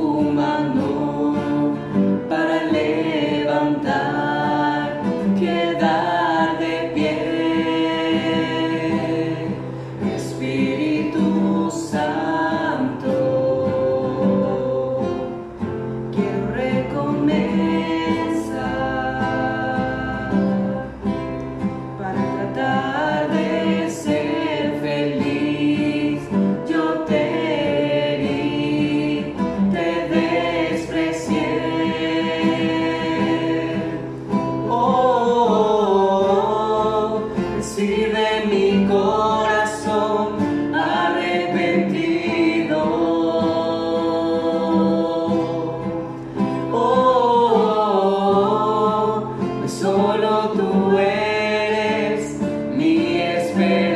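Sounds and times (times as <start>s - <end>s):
man and woman singing: 0.0s - 53.9s
strummed classical guitar: 0.0s - 53.9s.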